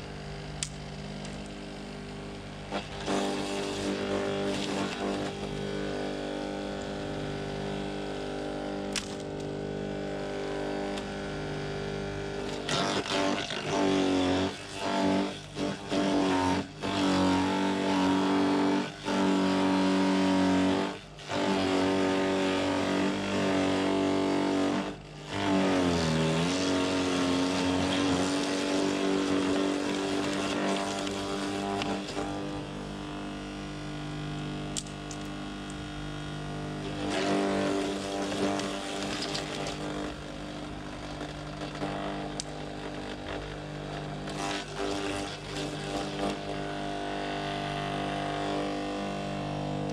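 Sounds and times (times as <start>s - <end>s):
garden shredder motor running: 0.0s - 49.9s.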